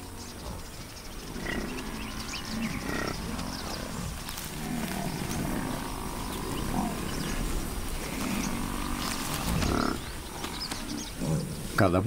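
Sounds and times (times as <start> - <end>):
buffalo grunting: 0.0 - 11.8
dry grass crackling: 0.0 - 11.8.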